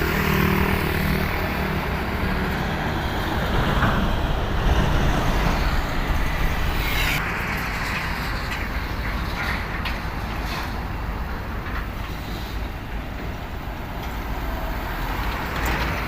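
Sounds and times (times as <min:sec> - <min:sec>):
heavy vehicle engines rumbling: 0:00.0 - 0:16.0.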